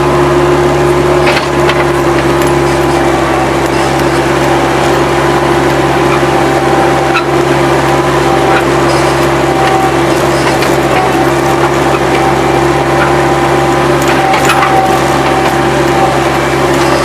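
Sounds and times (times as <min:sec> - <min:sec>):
loader engine droning: 0:00.0 - 0:17.0.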